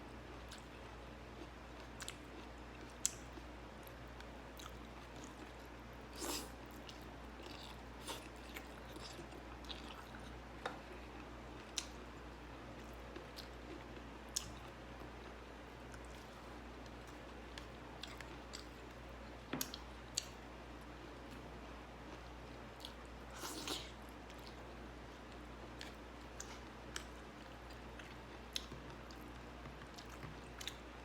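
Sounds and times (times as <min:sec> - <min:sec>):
person chewing food: 0:00.4 - 0:31.0.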